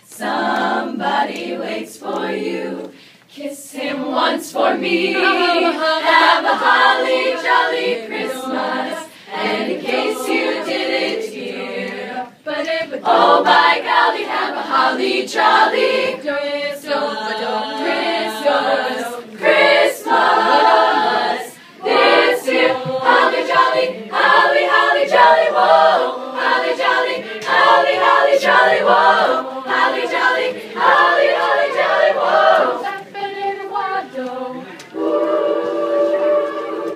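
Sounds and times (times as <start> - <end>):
girls' choir singing a carol: 0.0 - 36.9.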